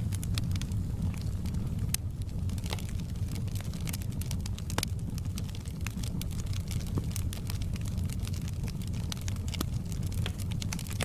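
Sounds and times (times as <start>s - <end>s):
steady low rumble: 0.0s - 11.0s
wood fire crackling: 0.0s - 11.0s.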